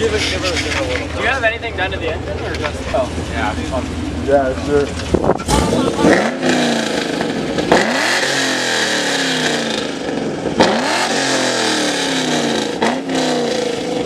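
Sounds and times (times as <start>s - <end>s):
car engine revving: 2.5s - 14.0s.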